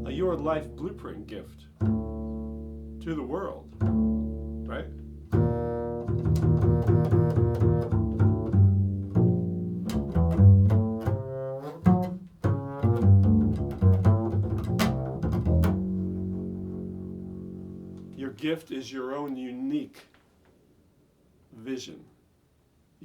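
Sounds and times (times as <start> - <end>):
plucked bass notes: 0.0 - 18.4.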